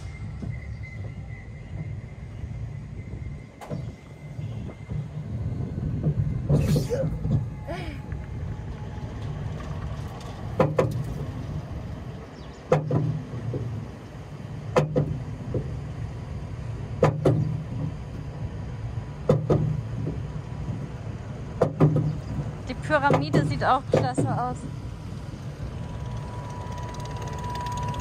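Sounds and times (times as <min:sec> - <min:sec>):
roller coaster rumble: 0:00.0 - 0:28.0.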